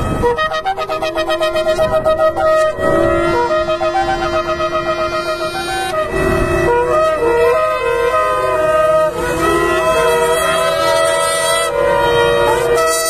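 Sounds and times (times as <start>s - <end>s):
shofars blowing: 0.0s - 13.0s.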